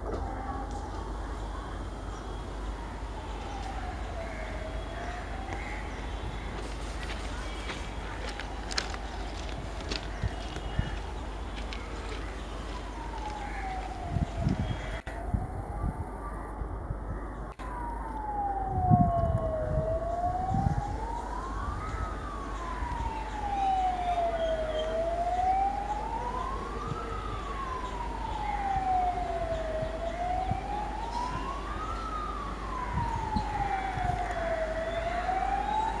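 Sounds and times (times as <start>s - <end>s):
siren wailing: 0.0s - 16.6s, 17.6s - 36.0s.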